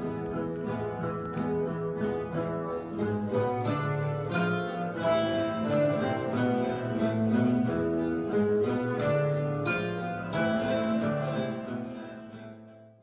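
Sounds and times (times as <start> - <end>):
classical guitar ensemble playing: 0.0 - 13.0.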